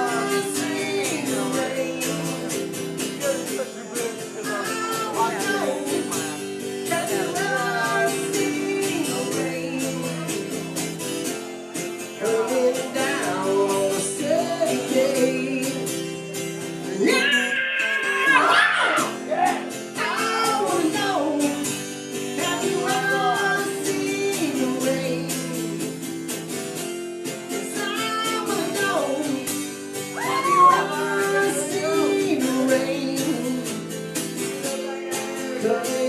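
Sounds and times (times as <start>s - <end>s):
guitar accompaniment: 0.0s - 36.0s.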